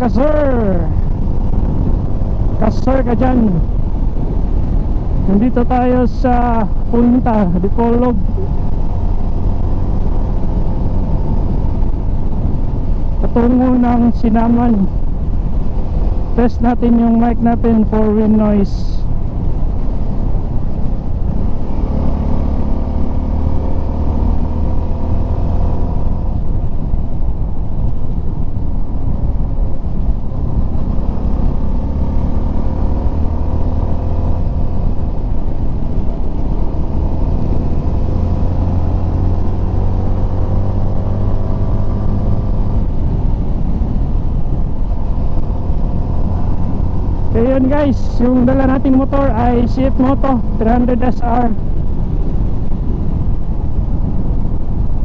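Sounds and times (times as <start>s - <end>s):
muffled wind rumble: 0.0s - 55.0s.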